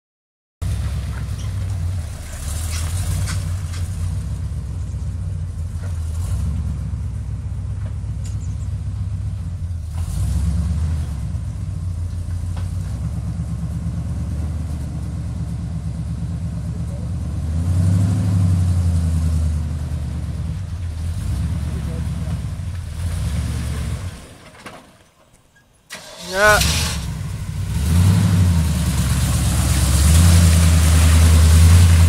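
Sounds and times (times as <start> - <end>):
truck engine rumbling: 0.6 - 32.0.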